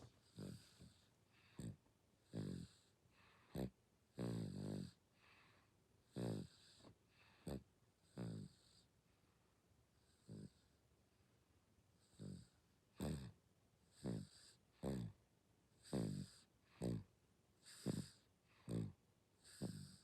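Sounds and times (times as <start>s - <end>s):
baby snoring: 0.2s - 8.9s, 10.0s - 10.7s, 12.0s - 15.2s, 15.8s - 20.0s.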